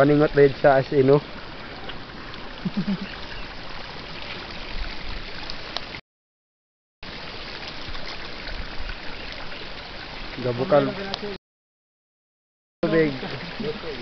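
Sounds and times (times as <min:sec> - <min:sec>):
hot spring water boiling and bubbling: 0:00.0 - 0:06.0, 0:07.0 - 0:11.4, 0:12.8 - 0:14.0.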